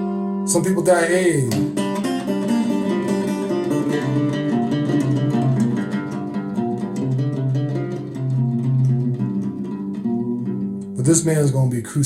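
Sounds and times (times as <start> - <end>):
guitar music: 0.0 - 12.0.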